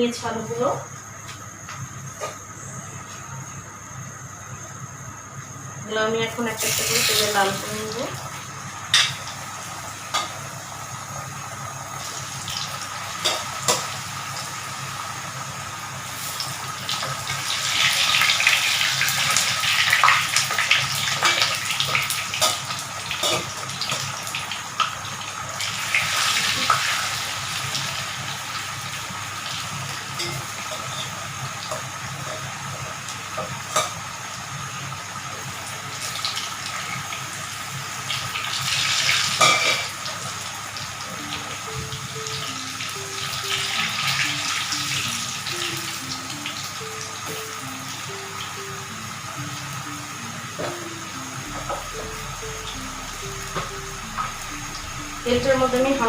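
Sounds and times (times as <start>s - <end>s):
potatoes sizzling in oil: 0.0s - 56.0s.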